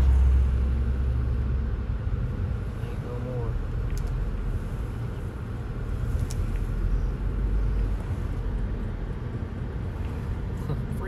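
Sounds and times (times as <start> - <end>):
car cabin engine and tyre rumble: 0.0 - 11.0.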